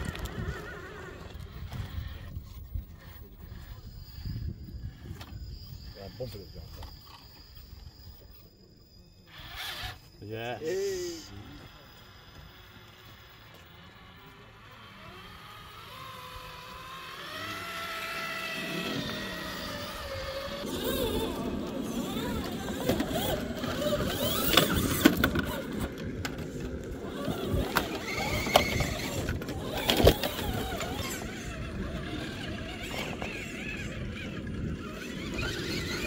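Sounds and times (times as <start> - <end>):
toy truck grinding over rocks: 0.0 - 8.6, 9.2 - 36.0
motor and gearbox whine: 0.0 - 36.0.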